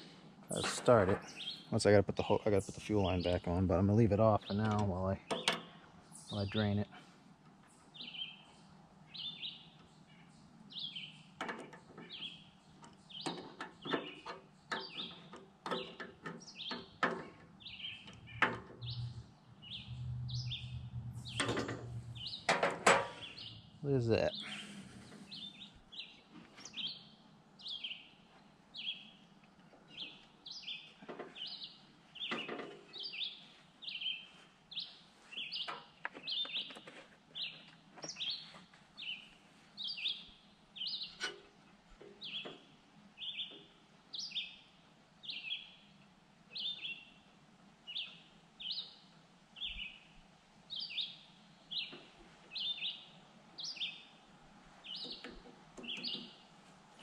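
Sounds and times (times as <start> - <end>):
bird chirping: 0.5 - 7.0, 7.7 - 57.0.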